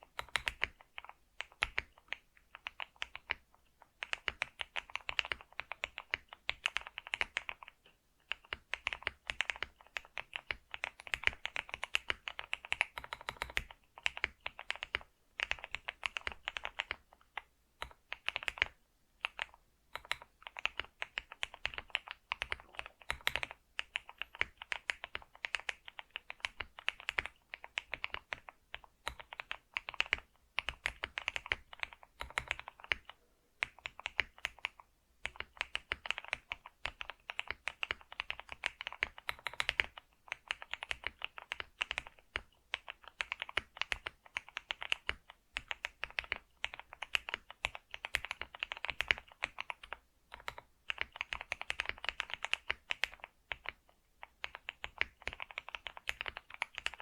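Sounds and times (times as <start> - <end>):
keyboard typing: 0.0 - 57.0.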